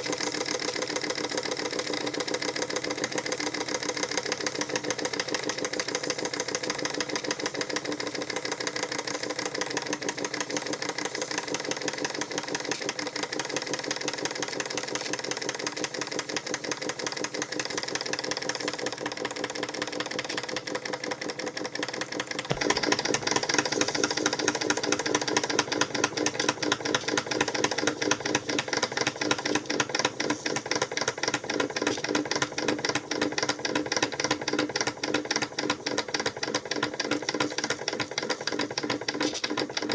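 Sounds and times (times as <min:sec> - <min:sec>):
light mechanical rattle: 0:00.0 - 0:39.9
model steam engine running: 0:00.0 - 0:39.9.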